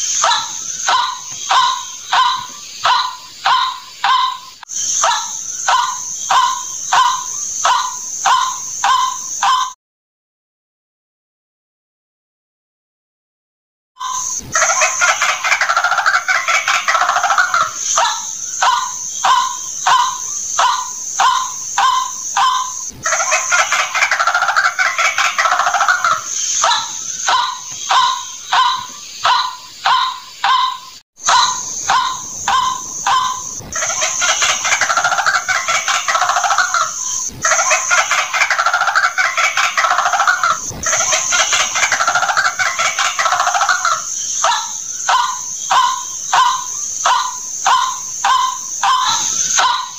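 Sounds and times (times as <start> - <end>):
bird calling nasal notes: 0.0 - 9.8, 14.0 - 49.9.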